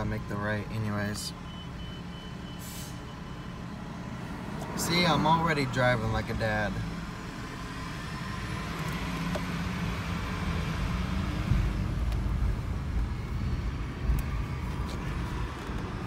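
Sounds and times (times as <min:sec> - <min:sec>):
in-cabin engine and road noise: 0:00.0 - 0:16.0.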